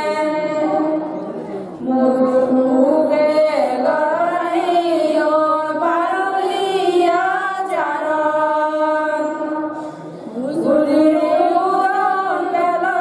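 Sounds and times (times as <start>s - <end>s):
voices chanting together: 0.0s - 13.0s.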